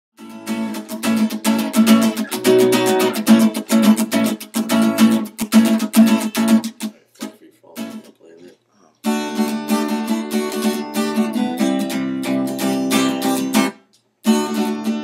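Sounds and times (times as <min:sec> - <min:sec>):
acoustic guitar strumming: 0:00.2 - 0:08.3, 0:09.0 - 0:15.0.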